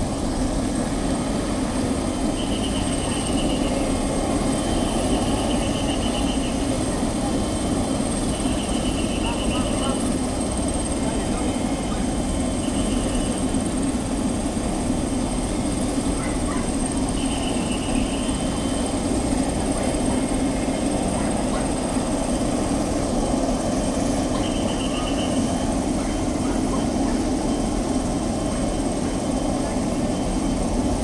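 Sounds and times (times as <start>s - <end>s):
helicopter turbine engines running: 0.0s - 31.0s.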